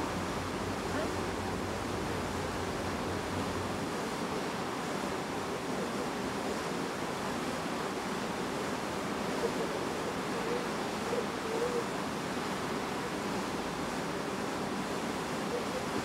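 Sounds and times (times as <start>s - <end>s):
wind and water rushing: 0.0s - 16.0s.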